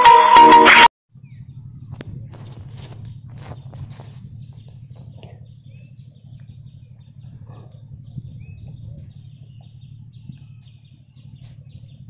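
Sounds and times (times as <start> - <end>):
birds chirping: 1.2 - 12.0
steady low hum: 1.2 - 12.0.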